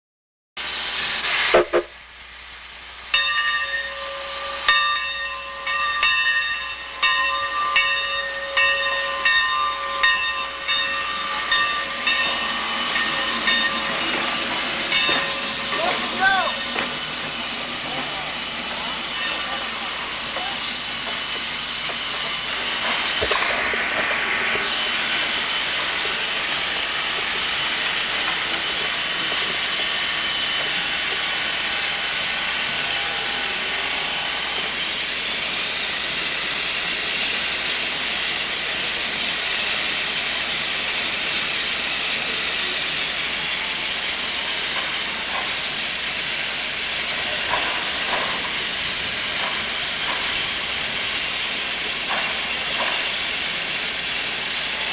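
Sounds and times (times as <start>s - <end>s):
steam hissing: 0.6s - 54.9s.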